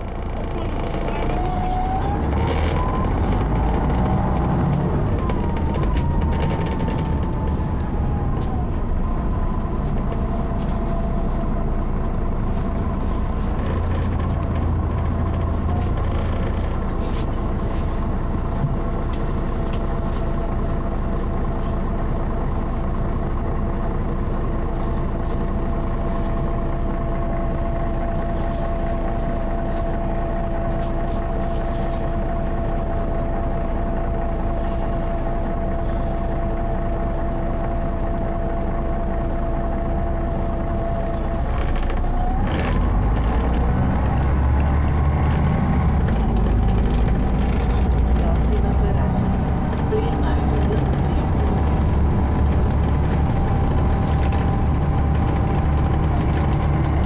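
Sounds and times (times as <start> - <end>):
bus engine rumble: 0.0 - 57.0
engine whine: 0.0 - 57.0.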